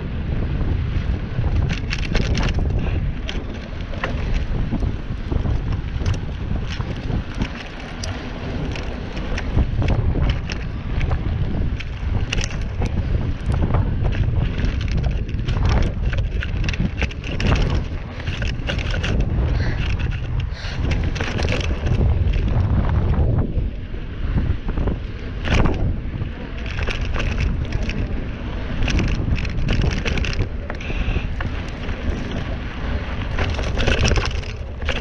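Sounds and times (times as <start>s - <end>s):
bike clicks and rattles: 0.0s - 35.0s
steady low rumble: 0.0s - 35.0s
wind buffeting microphone: 0.0s - 35.0s.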